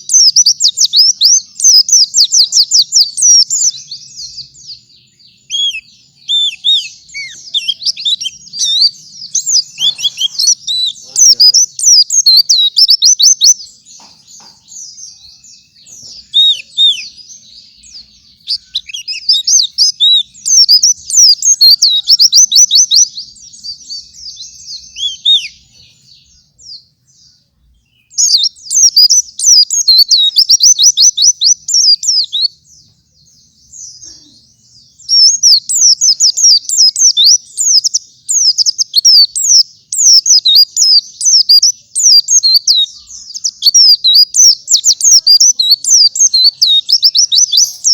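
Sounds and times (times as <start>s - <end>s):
bird twittering song: 0.0s - 47.9s.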